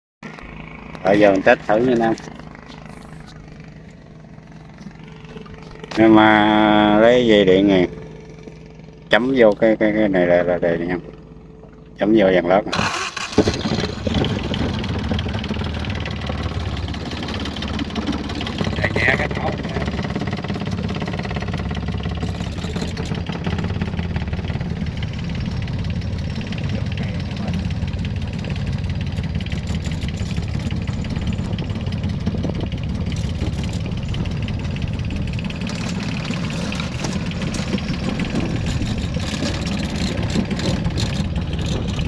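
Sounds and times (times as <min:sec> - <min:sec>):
diesel boat engine running: 0:00.2 - 0:42.0.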